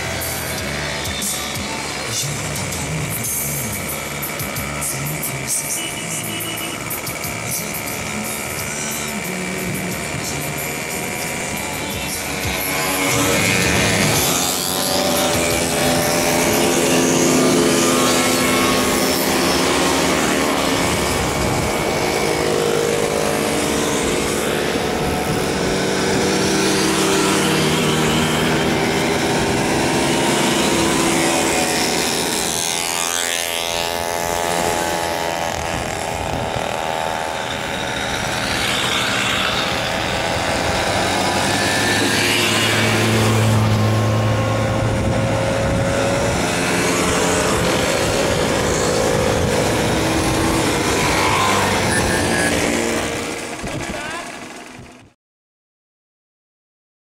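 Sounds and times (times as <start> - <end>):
mopeds buzzing past: 0.0 - 55.2.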